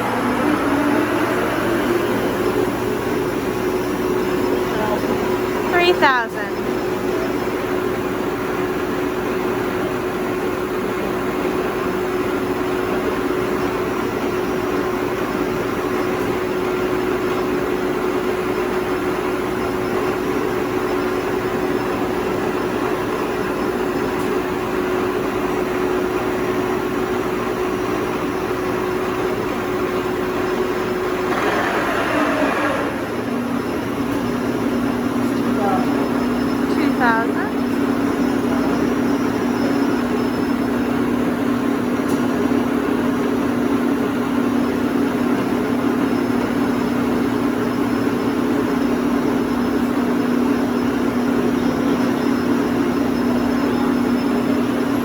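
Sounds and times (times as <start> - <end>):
boring mill spindle whine: 0.0 - 55.0.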